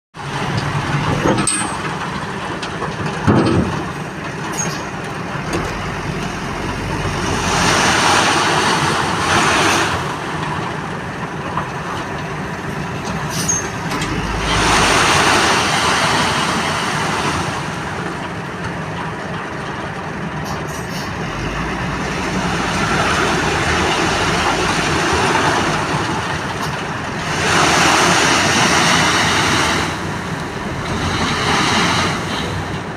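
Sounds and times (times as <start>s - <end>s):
dump truck engine running: 0.2s - 32.9s.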